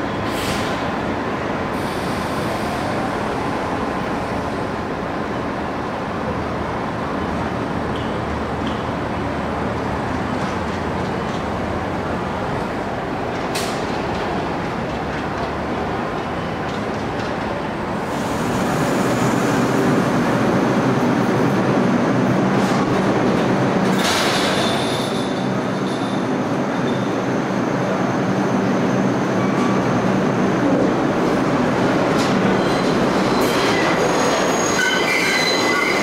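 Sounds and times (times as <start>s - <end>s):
street noise: 0.0s - 36.0s
subway train running: 0.0s - 36.0s.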